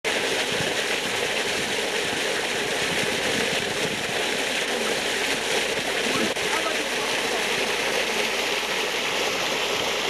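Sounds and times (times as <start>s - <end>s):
water gushing and churning: 0.0s - 10.0s.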